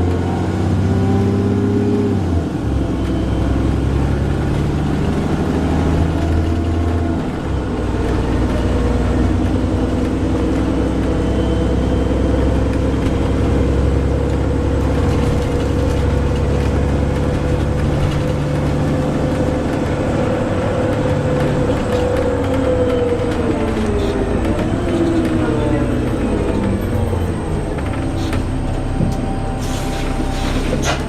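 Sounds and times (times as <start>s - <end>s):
bus engine droning: 0.0s - 31.0s.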